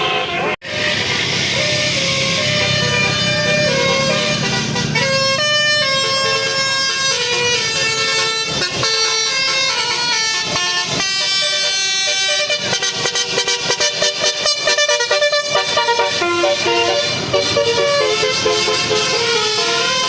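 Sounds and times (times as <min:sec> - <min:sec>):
musical bus air horn: 0:00.0 - 0:20.0.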